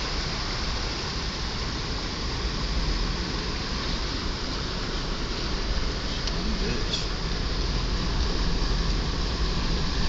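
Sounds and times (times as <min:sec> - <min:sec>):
water rushing against tyres: 0:00.0 - 0:10.0.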